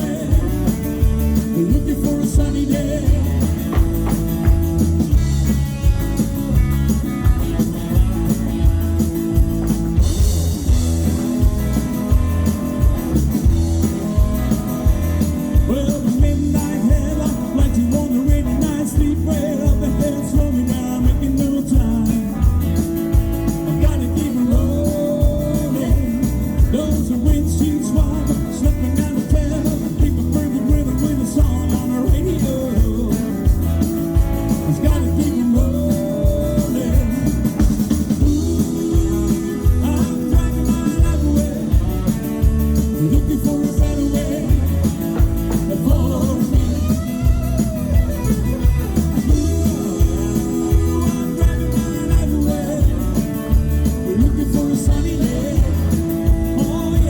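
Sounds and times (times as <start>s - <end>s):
live country-rock band playing: 0.0s - 57.0s.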